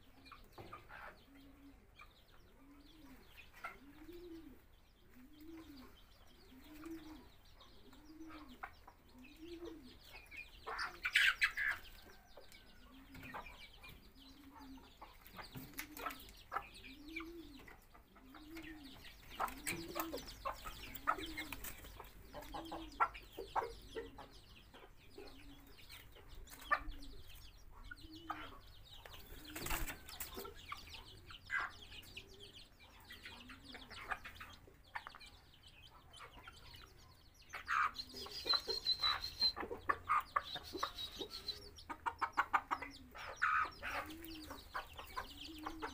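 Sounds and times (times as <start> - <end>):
chicks peeping: 0.0 - 45.9
hen clucking: 0.1 - 45.9
chickens pecking: 2.5 - 45.9.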